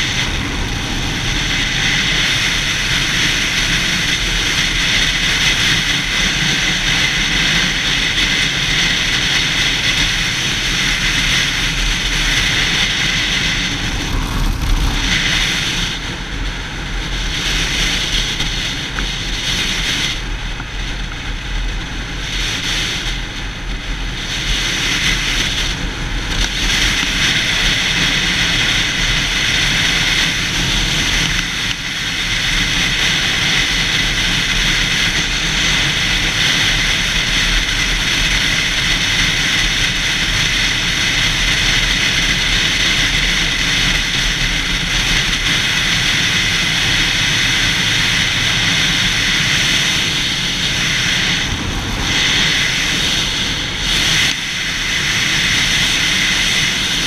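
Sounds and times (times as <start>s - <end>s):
motorcycle engine: 0.0s - 57.0s
wind rushing over microphone: 0.0s - 57.0s.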